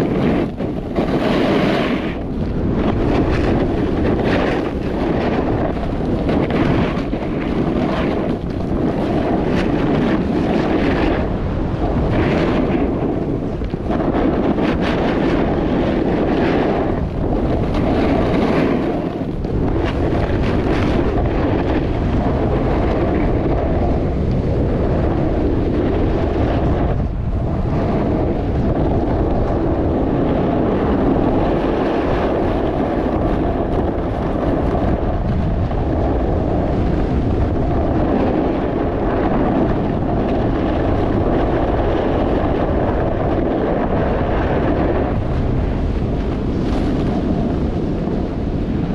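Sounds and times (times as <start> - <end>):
snowboard scraping over snow: 0.0 - 48.9
wind rushing over microphone: 0.0 - 48.9.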